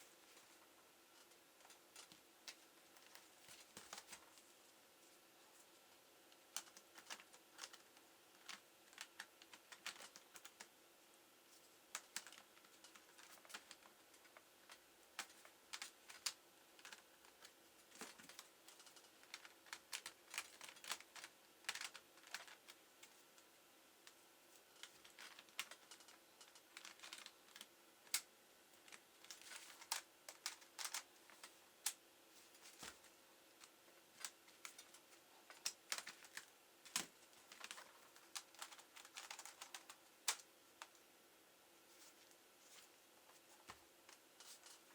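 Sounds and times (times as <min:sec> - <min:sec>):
faint laptop keyboard typing: 0:00.2 - 0:05.7, 0:06.3 - 0:10.8, 0:11.5 - 0:41.1.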